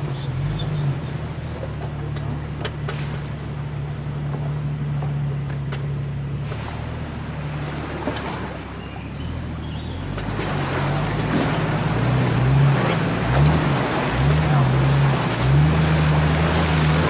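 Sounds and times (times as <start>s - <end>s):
car engine revving: 0.0s - 17.0s
water splashing against car: 0.0s - 17.0s.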